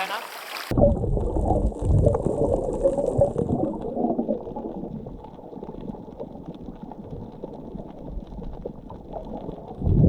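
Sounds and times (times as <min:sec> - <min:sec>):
bubbling: 0:00.0 - 0:10.0
muffled underwater rumble: 0:00.7 - 0:10.0.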